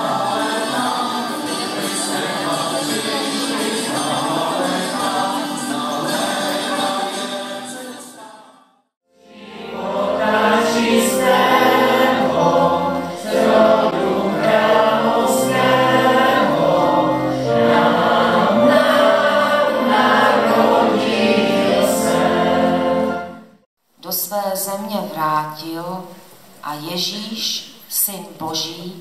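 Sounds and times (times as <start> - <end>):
group singing a carol: 0.0 - 23.7.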